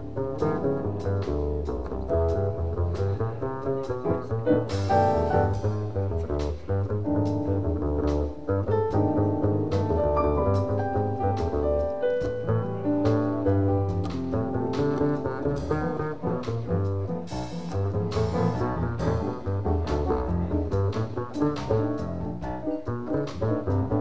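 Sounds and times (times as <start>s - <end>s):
drums and cymbals: 0.0s - 24.0s
jazz piano: 0.0s - 24.0s
walking double bass line: 0.0s - 24.0s.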